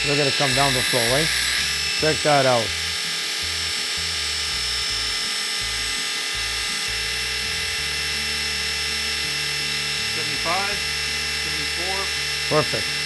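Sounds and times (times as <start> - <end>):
music: 0.0 - 13.0
small electric motor whining: 0.0 - 13.0.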